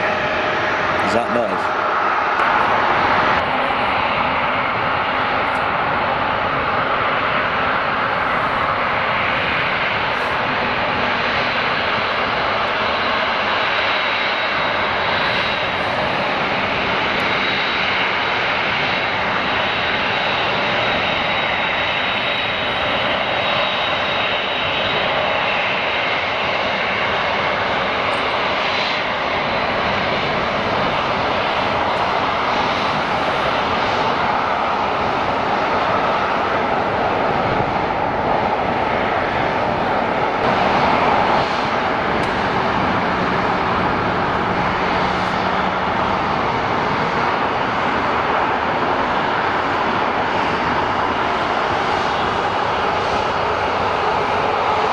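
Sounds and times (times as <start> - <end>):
high engine whine: 0.0 - 54.9
jet engines rumbling: 0.0 - 54.9.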